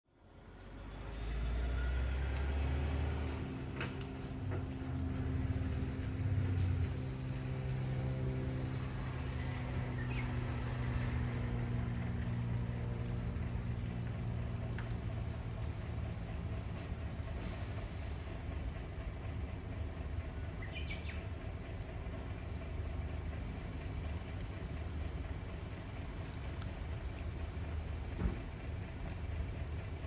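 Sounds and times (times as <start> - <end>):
engine hum: 0.1 - 30.0
low vehicle rumble: 0.1 - 30.0.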